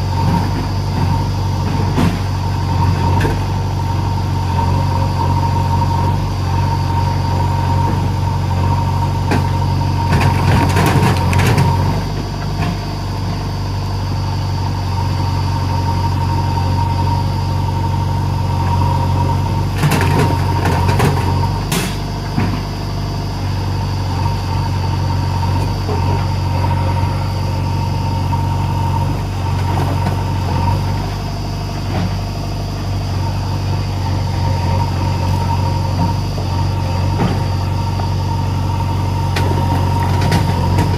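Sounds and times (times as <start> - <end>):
diesel engine running: 0.0 - 40.9
high whine: 0.0 - 40.9.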